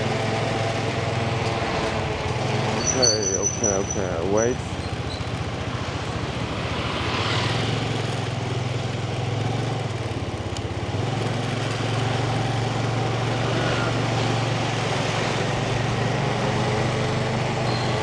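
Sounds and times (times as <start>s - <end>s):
motorbike engine running: 0.0s - 18.0s
street traffic noise: 0.0s - 18.0s.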